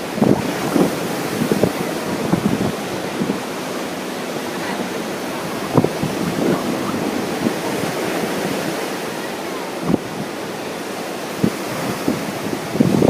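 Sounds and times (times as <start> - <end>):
ocean surf washing on shore: 0.0 - 13.0
wind buffeting microphone: 0.0 - 13.0.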